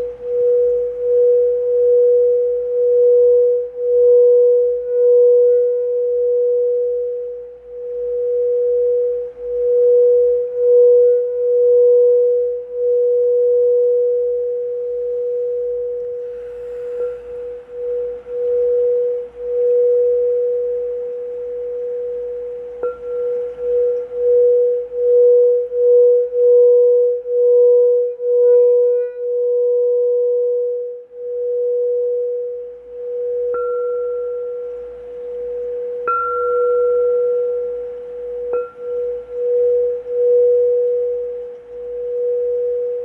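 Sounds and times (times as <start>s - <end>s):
singing bowl tone: 0.0s - 43.0s.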